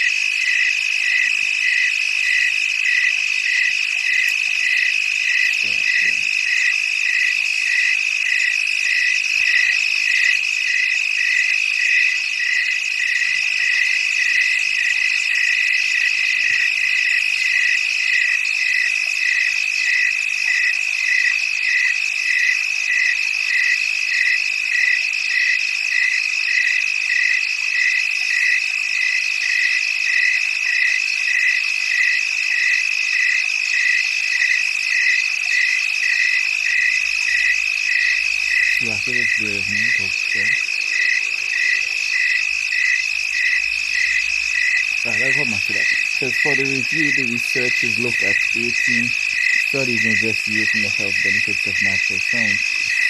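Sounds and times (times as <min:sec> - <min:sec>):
frogs and insects calling: 0:00.0 - 0:53.0.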